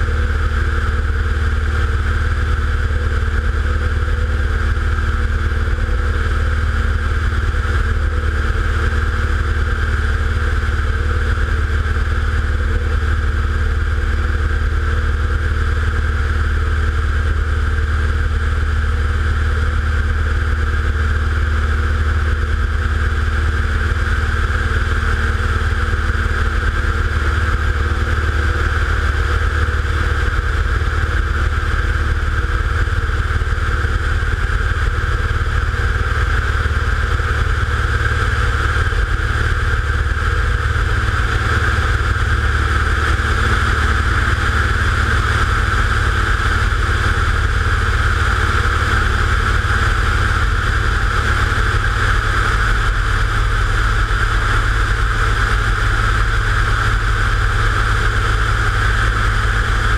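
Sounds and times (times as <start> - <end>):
aircraft motor and propeller: 0.0 - 59.9.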